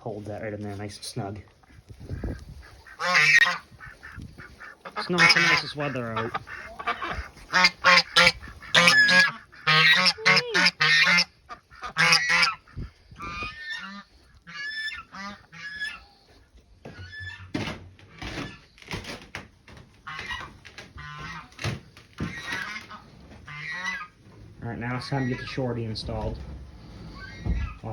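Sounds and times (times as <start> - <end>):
geese honking: 1.6 - 18.8, 19.9 - 27.9.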